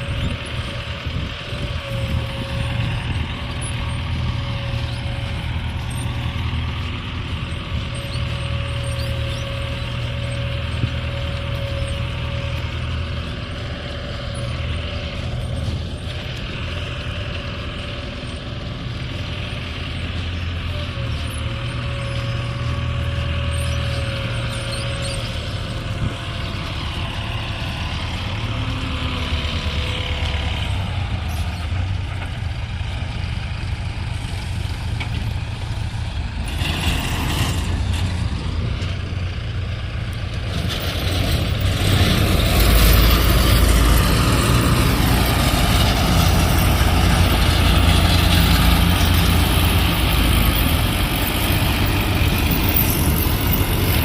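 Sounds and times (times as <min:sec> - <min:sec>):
heavy engine humming: 0:00.0 - 0:54.0.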